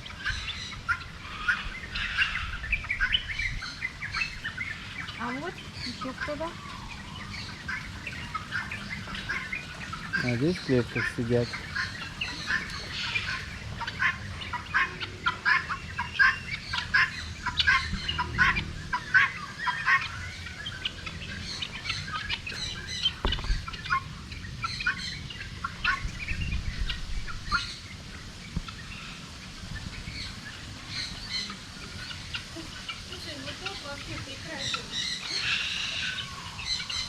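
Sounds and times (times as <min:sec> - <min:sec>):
caged birds chirping and squawking: 0:00.0 - 0:37.0.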